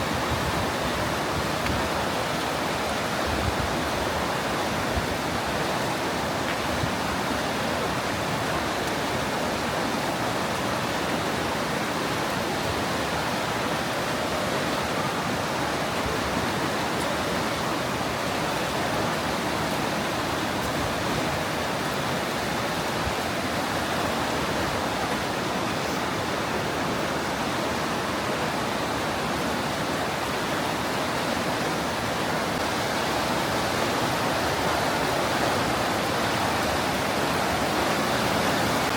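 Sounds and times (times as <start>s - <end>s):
river rushing white water: 0.0s - 38.9s.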